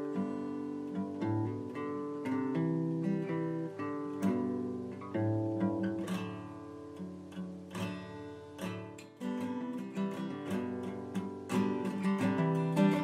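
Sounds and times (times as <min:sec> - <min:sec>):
acoustic guitar picked and strummed: 0:00.0 - 0:13.0.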